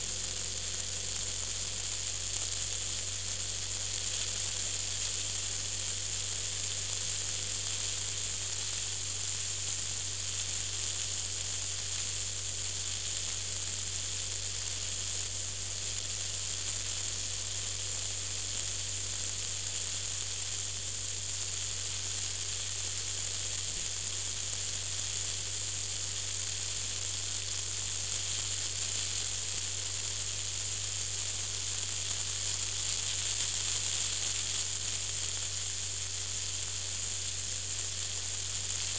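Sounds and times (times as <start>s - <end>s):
recording hiss: 0.0s - 38.9s.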